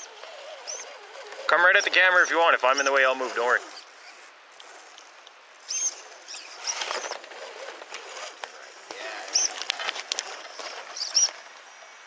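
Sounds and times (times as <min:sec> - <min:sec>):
rc car tyres scrabbling: 0:00.0 - 0:12.0.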